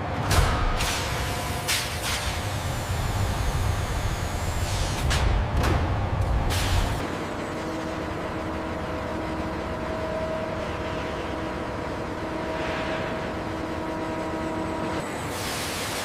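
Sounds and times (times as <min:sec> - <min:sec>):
heavy machinery droning: 0:00.0 - 0:16.0.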